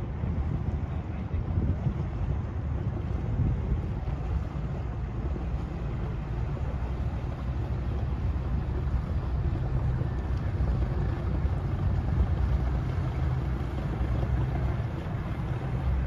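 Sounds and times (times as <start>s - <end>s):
boat engines idling: 0.0s - 16.0s
wind noise on microphone: 0.0s - 16.0s.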